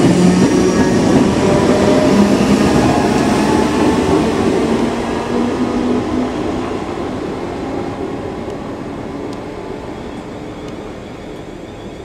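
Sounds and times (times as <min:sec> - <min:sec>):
electric train pulling away: 0:00.0 - 0:12.0.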